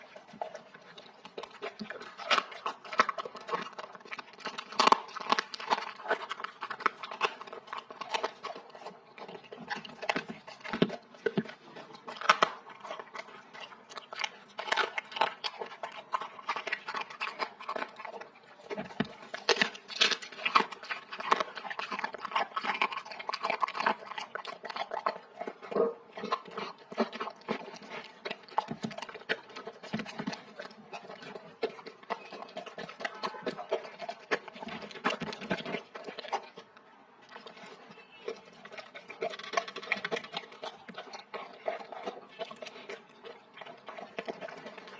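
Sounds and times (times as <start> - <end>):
dog crunching food: 0.0 - 44.9.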